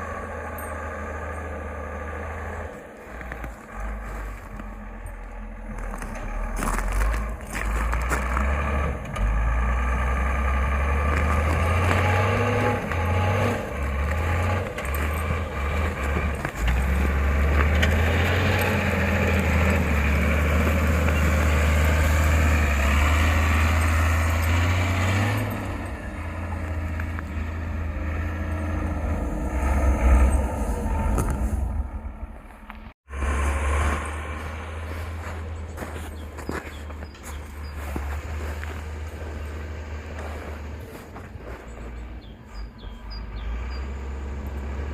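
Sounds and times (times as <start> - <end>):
vehicle driving off-road: 0.0 - 44.9.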